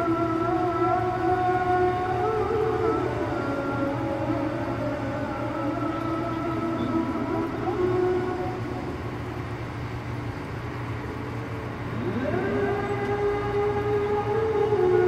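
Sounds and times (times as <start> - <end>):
call to prayer over loudspeakers: 0.0 - 15.0.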